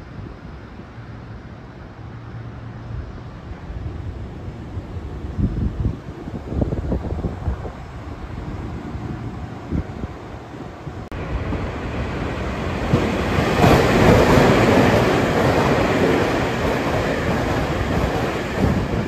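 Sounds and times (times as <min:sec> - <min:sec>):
electric train wheel rush: 0:00.0 - 0:19.0.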